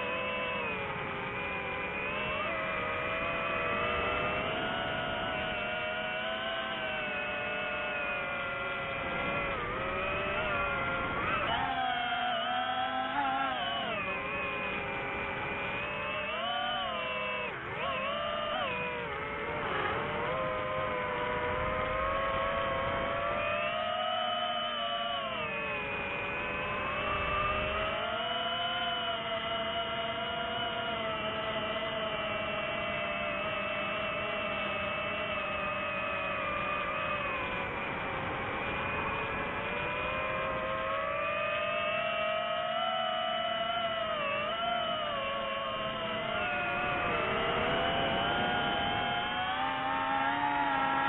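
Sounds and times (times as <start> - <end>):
drone propellers whining: 0.0 - 51.0.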